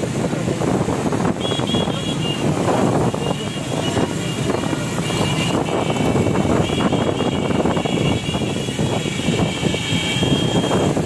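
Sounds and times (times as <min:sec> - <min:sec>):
motorcycles running: 0:00.0 - 0:11.0
wind buffeting microphone: 0:00.0 - 0:11.0.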